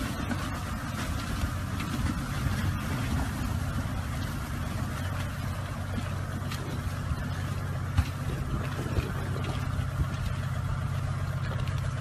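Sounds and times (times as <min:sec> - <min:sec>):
suv engine running: 0:00.0 - 0:12.0.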